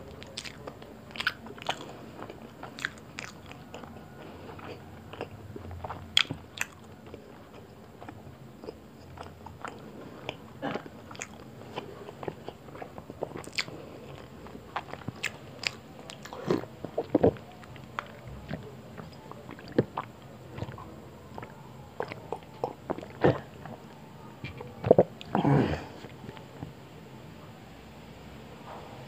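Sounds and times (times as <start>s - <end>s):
chewing mouth sounds: 0.0s - 26.7s.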